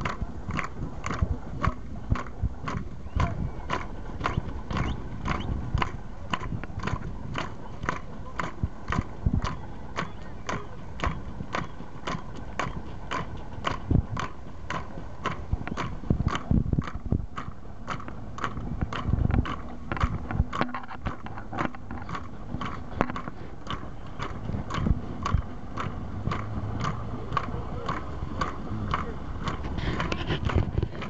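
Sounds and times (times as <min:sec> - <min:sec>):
vehicles rolling past: 0:00.0 - 0:31.0.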